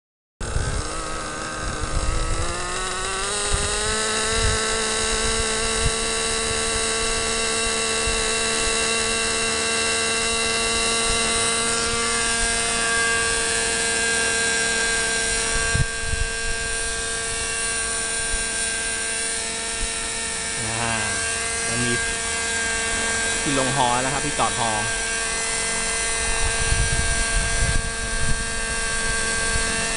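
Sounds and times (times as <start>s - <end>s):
model helicopter whine: 0.4s - 29.9s.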